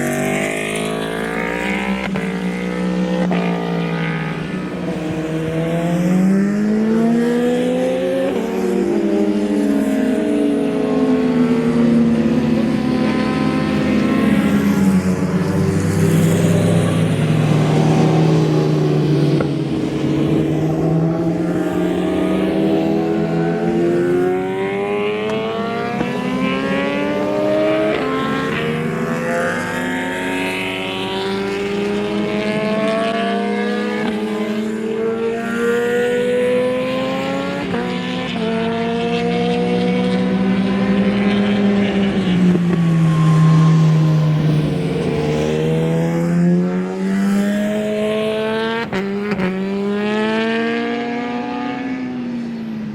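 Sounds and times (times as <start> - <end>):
racing motorcycle engines revving: 0.0 - 52.9.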